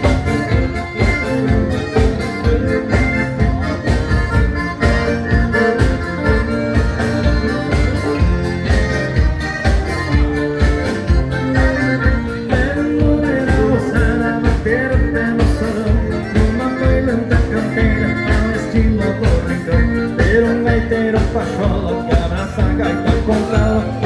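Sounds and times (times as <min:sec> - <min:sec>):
live dance band playing: 0:00.0 - 0:24.0.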